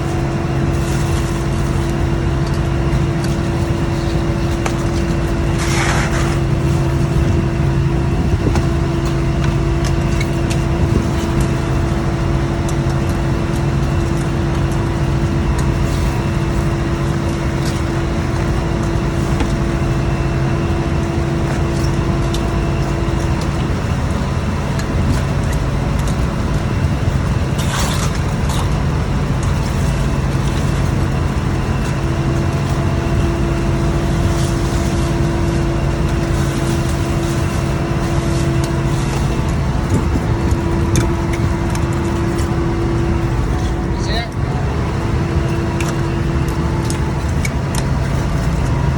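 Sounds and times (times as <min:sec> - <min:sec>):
boat engine drone: 0:00.0 - 0:48.9
higher machinery hum: 0:00.0 - 0:48.9.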